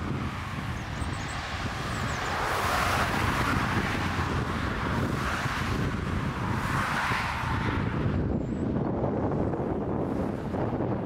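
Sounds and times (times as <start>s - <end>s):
jet engines rushing: 0.0s - 11.0s
wind buffeting microphone: 0.0s - 11.0s.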